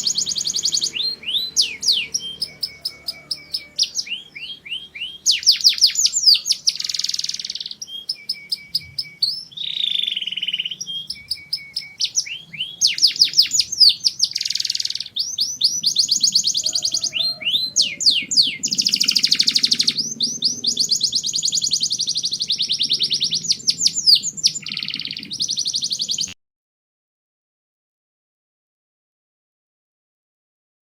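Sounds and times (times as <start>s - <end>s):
canary singing trills: 0.0s - 26.4s.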